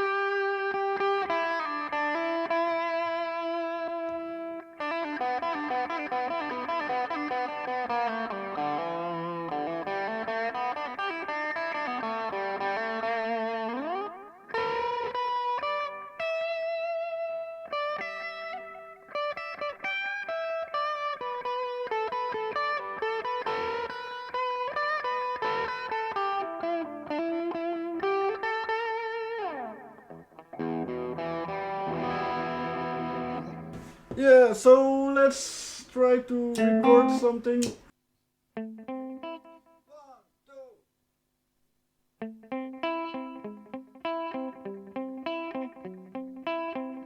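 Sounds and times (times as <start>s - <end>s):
electric guitar with delay: 0.0s - 33.7s, 36.6s - 37.4s, 42.2s - 47.0s.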